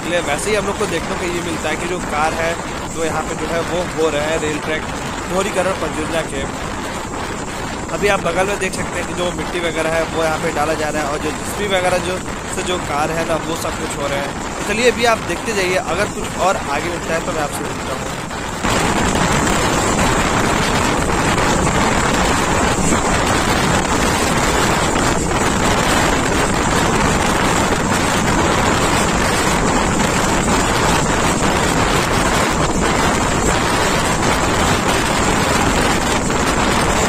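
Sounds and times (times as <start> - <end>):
train running on track: 0.0 - 37.0
wind buffeting microphone: 0.0 - 37.0.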